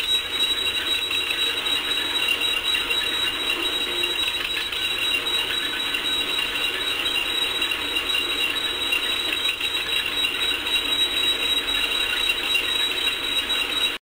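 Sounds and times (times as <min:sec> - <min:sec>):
threshing machine rattling: 0:00.0 - 0:14.0.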